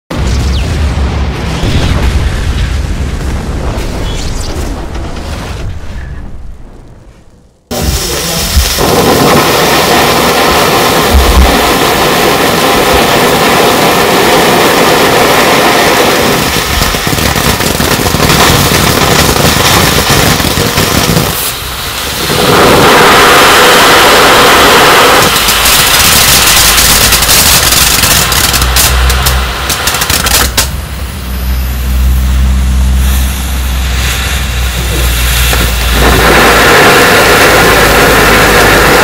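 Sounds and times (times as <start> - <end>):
firework fountain hissing: 7.7 - 39.0.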